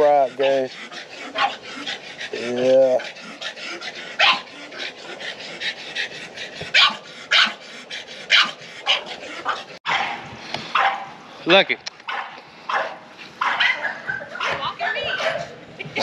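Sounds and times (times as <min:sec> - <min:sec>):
dogs barking: 0:00.0 - 0:11.2, 0:12.0 - 0:15.6
dogs panting: 0:00.0 - 0:16.0.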